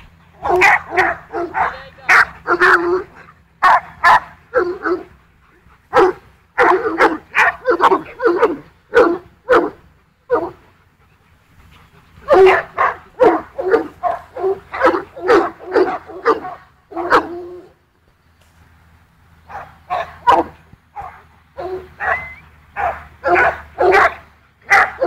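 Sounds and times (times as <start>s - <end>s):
dogs barking: 0.4s - 10.8s, 12.2s - 17.8s, 19.4s - 25.0s.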